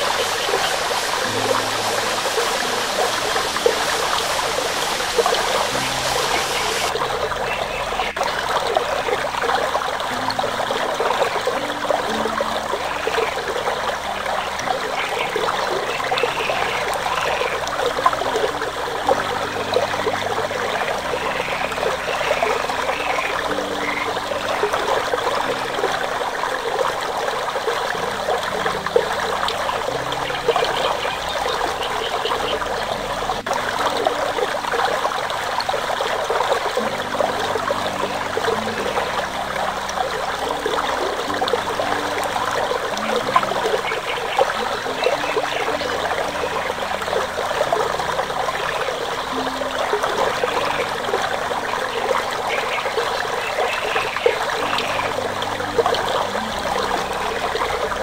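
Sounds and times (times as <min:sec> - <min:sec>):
creek water splashing over rocks: 0:00.0 - 0:58.0
soft background music: 0:00.0 - 0:58.0.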